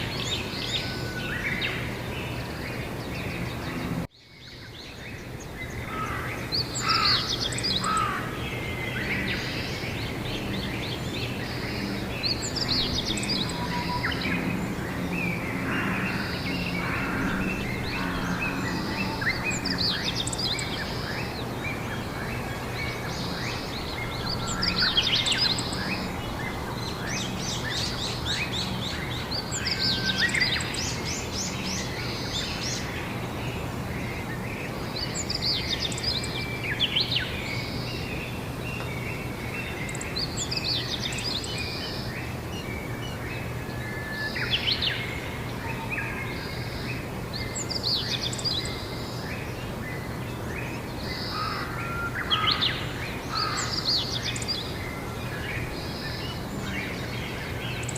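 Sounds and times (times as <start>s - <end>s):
songbirds singing: 0.0s - 57.9s.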